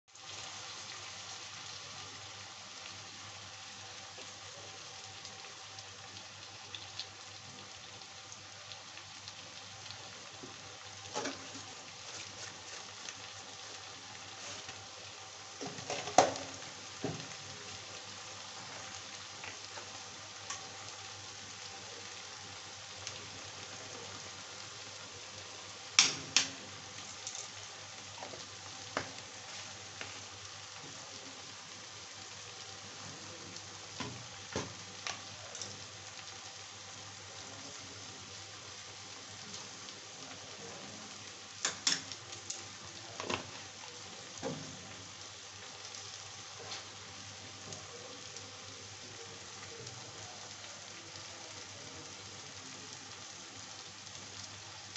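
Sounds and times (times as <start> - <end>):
onions sizzling in oil: 0.1 - 54.9.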